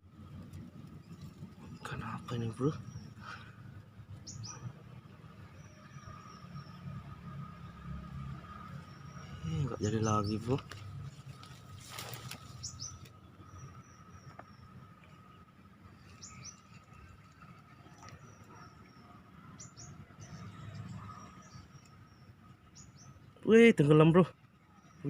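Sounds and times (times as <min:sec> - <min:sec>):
low outdoor background noise: 0:00.0 - 0:25.0
small birds chirping: 0:00.1 - 0:25.0.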